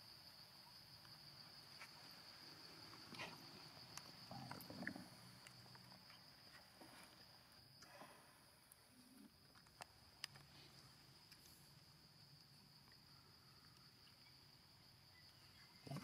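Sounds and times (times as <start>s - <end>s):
soft small noises: 0.8s - 14.7s.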